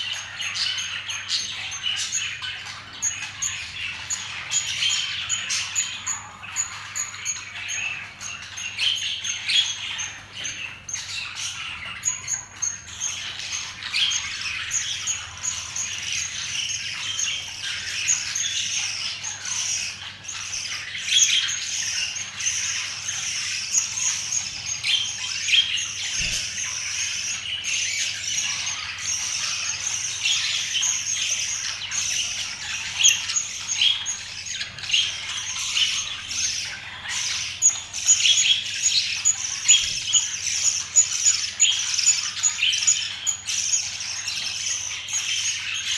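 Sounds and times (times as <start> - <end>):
budgerigars chattering: 0.0 - 45.9.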